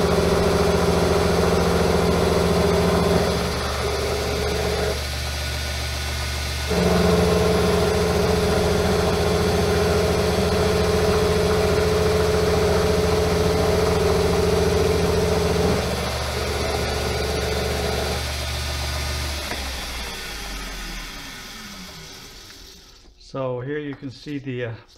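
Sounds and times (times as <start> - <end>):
metal lathe humming: 0.0 - 23.1.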